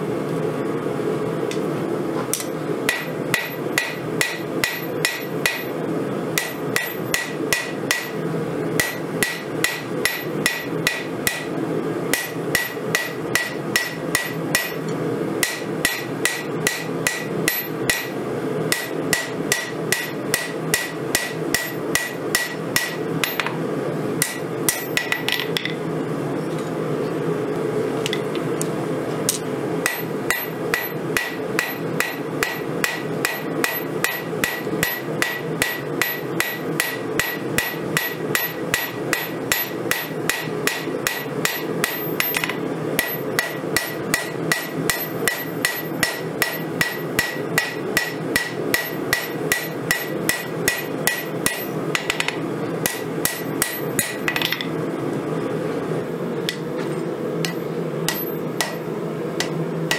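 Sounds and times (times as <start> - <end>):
steady hum: 0.0 - 59.9
hammer striking on anvil: 2.4 - 5.7, 6.4 - 8.2, 8.8 - 23.6, 24.2 - 25.8, 29.3 - 54.7, 57.4 - 59.9.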